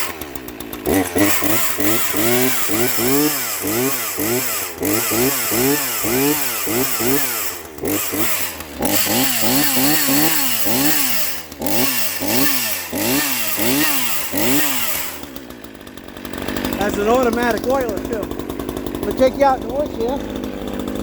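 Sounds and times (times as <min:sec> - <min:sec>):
chainsaw revving: 0:00.0 - 0:21.0.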